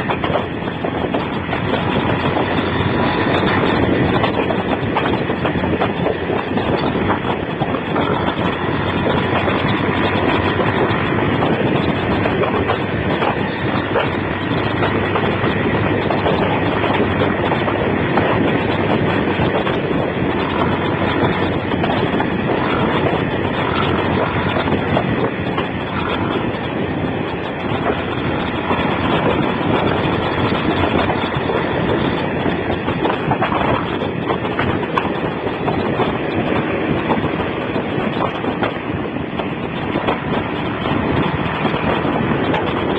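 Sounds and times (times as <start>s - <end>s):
motorcycle engine running: 0.0s - 42.9s
wind rushing: 0.0s - 42.9s.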